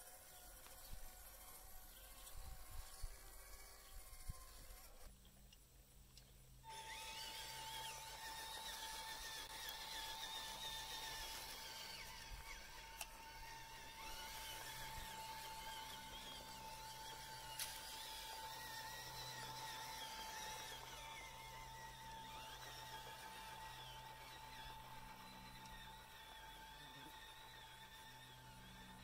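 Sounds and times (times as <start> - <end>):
electric motor whine: 0.0 - 5.1, 6.6 - 29.0
faint wavering whine: 0.0 - 5.1, 6.6 - 29.0.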